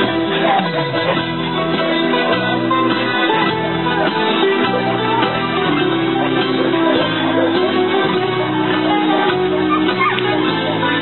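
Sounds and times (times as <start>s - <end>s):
instrumental music with plucked strings: 0.0s - 11.0s.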